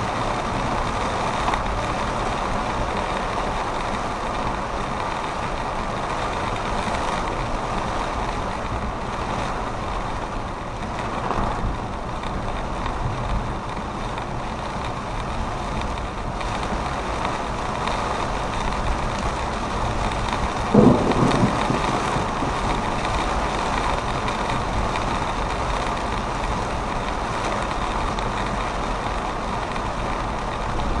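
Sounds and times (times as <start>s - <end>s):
vehicle road and engine noise: 0.0s - 31.0s.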